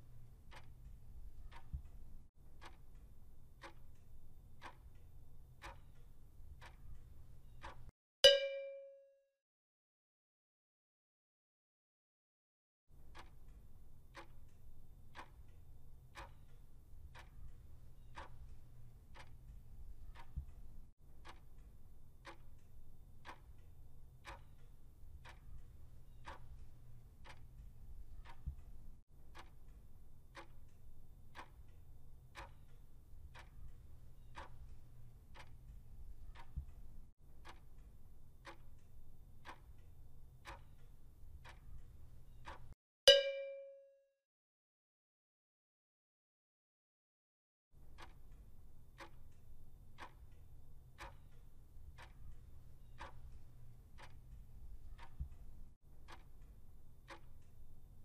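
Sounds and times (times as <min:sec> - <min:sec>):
clock ticking: 0:00.0 - 0:08.5, 0:13.0 - 0:43.6, 0:47.8 - 0:58.0.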